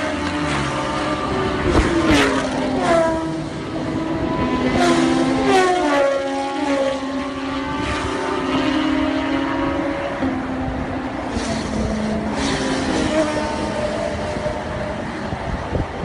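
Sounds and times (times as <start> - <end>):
motorcycle engine revving: 0.0 - 15.7.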